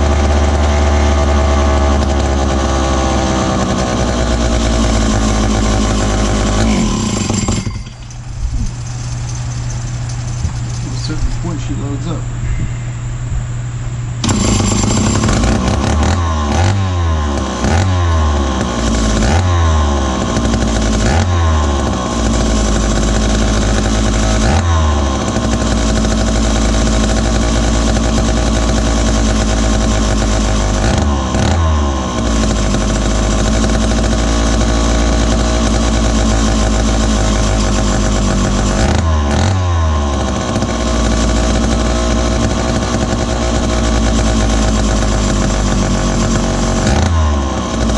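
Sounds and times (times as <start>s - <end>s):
chainsaw engine revving: 0.0s - 11.5s, 14.2s - 47.9s.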